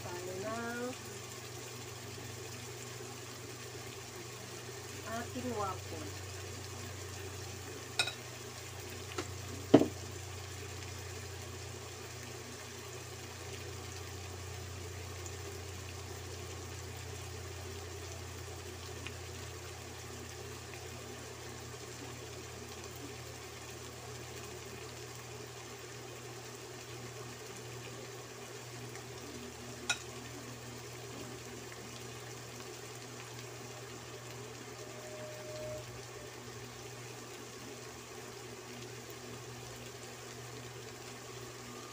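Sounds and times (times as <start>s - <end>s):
food sizzling in a wok: 0.0s - 41.9s.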